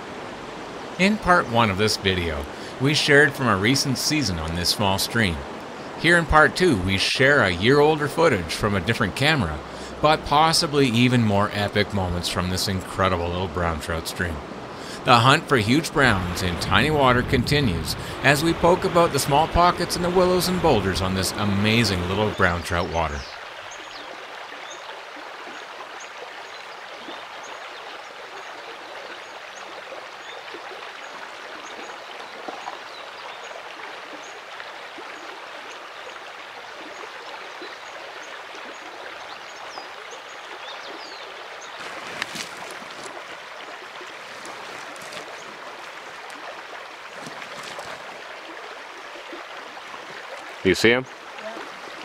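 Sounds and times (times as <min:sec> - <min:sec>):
stream running over stones: 0:00.0 - 0:52.0.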